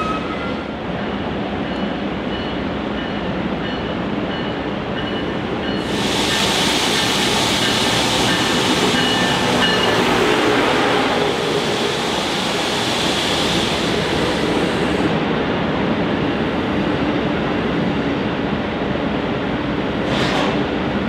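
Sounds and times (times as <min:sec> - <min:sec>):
passenger train rushing past: 0:00.0 - 0:21.0.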